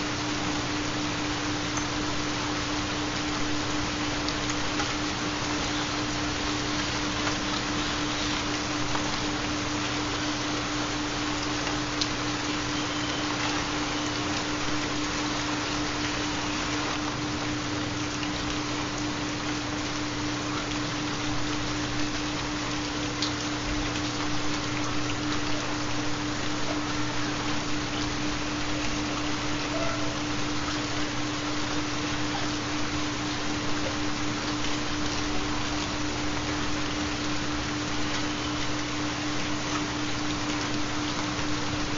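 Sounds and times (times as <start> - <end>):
rain: 0.0 - 41.9.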